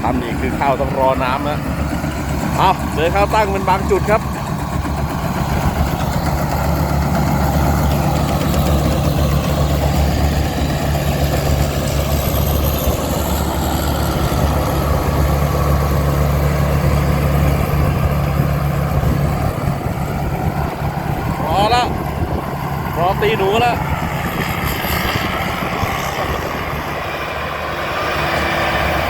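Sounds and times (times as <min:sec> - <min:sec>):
diesel engine under load: 0:00.0 - 0:29.0
machinery rattling: 0:00.0 - 0:29.0.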